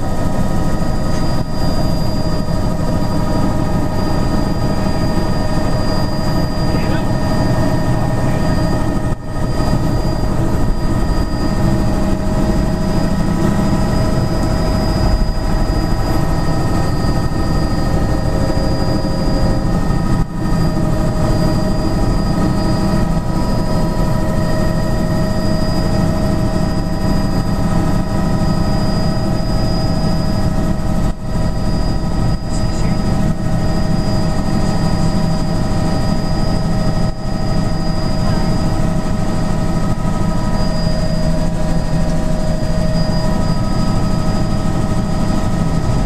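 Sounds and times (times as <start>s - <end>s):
helicopter engine and rotor drone: 0.0s - 46.0s
high turbine whine: 0.0s - 46.0s.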